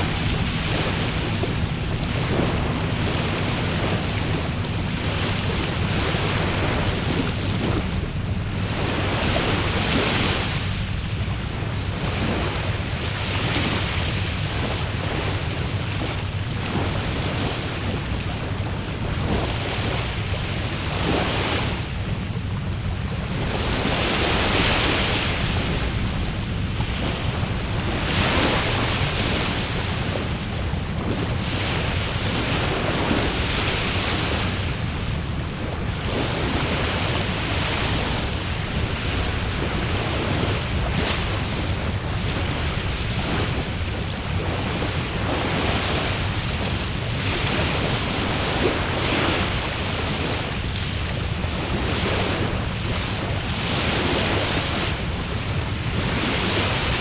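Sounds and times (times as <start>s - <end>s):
thin high whine: 0.0s - 57.0s.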